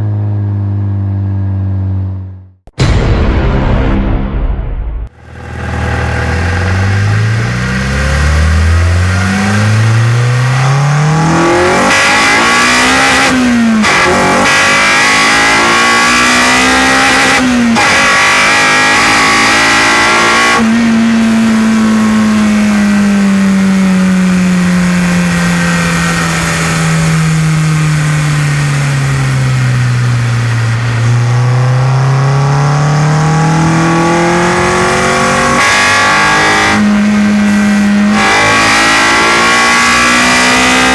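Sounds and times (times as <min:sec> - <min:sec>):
car engine revving through gears: 0:05.1 - 0:40.9.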